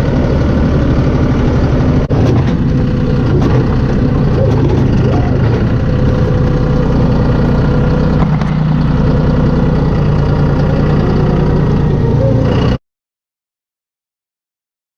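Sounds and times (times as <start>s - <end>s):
engine idling: 0.0s - 12.8s.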